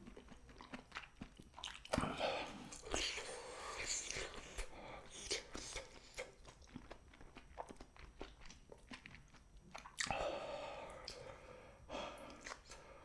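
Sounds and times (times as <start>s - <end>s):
close chewing food: 0.0s - 13.0s
wet mouth clicks: 0.0s - 13.0s.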